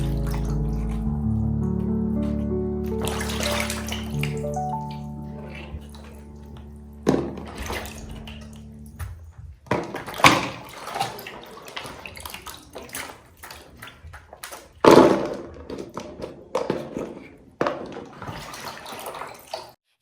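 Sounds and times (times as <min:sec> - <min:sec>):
water splashing: 0:00.0 - 0:19.8.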